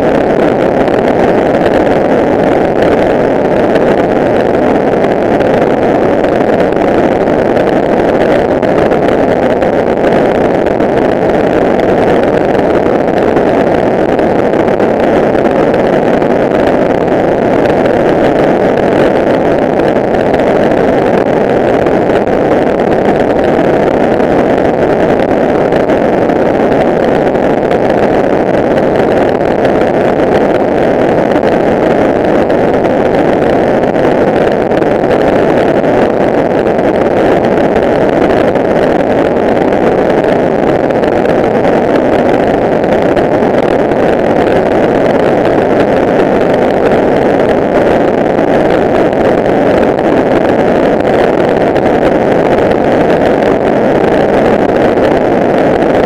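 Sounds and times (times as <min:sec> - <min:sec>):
motorcycle engine drone: 0:00.0 - 0:55.0
wind and road noise: 0:00.0 - 0:56.0.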